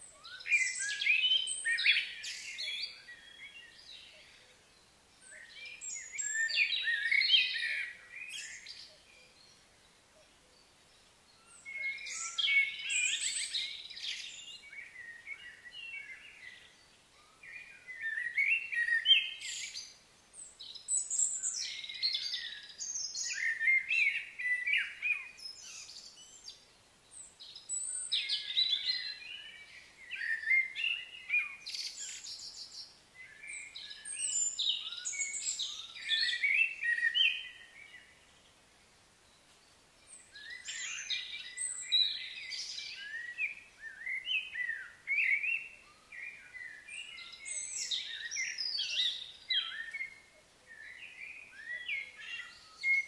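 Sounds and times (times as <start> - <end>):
songbirds chirping and singing: 0.0 - 53.0.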